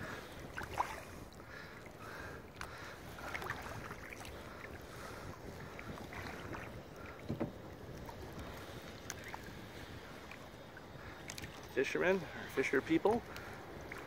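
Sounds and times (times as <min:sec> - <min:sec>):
paddle splashes and drips: 0:00.0 - 0:14.0
steady wash of water: 0:00.0 - 0:14.0.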